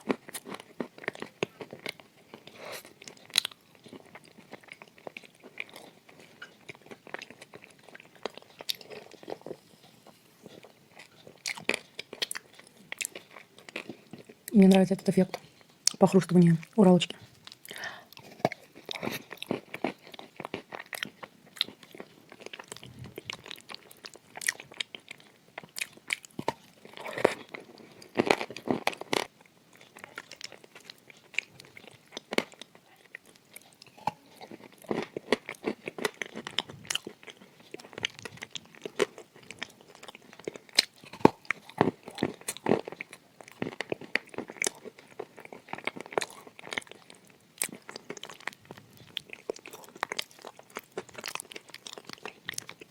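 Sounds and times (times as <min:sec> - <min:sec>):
crunching and chewing: 0:00.0 - 0:52.9.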